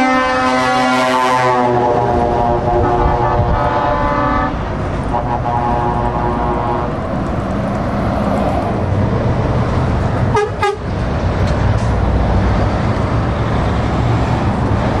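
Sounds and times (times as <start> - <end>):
lorries and cars passing: 0.0 - 15.0.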